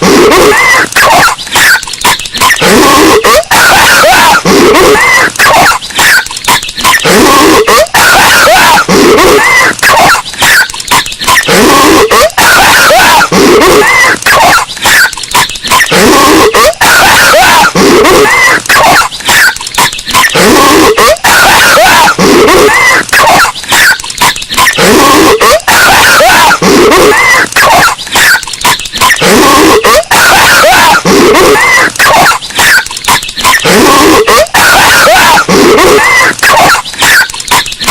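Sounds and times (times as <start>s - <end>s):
distorted cartoon voice coughing: 0.0s - 37.9s.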